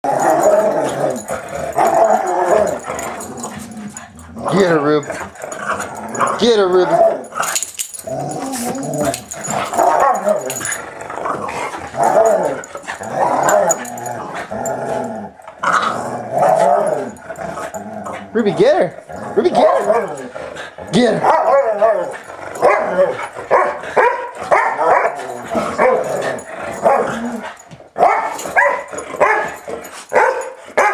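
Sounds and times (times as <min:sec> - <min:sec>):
dogs growling while play-fighting: 0:00.0 - 0:30.9.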